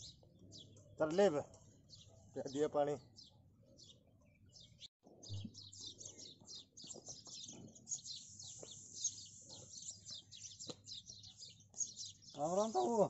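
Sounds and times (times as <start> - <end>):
small birds chirping and twittering: 0.0 - 13.0.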